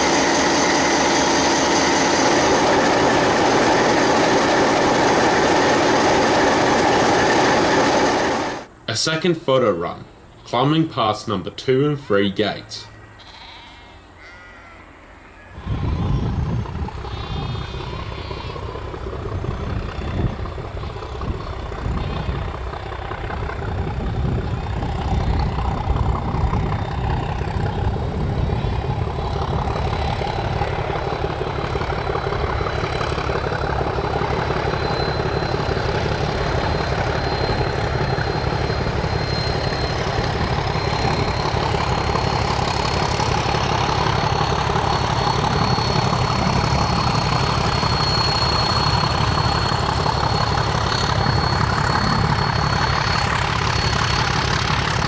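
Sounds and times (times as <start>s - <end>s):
diesel locomotives rumbling: 0.0s - 55.0s.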